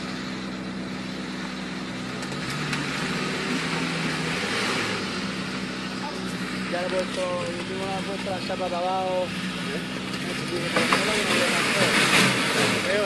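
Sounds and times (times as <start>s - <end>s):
car engine revving under load: 0.0s - 13.0s.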